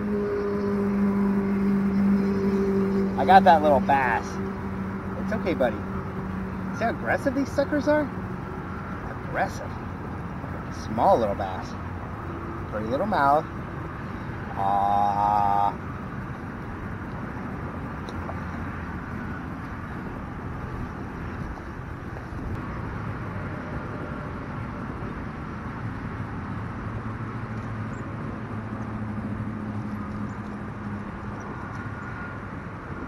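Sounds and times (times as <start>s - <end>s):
distant freeway traffic: 0.0s - 33.0s
low engine hum: 0.0s - 33.0s.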